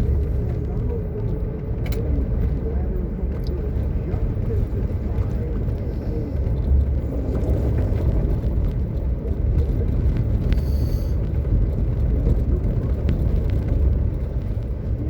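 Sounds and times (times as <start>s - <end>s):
vehicle engine and tyres rumbling: 0.0s - 15.0s.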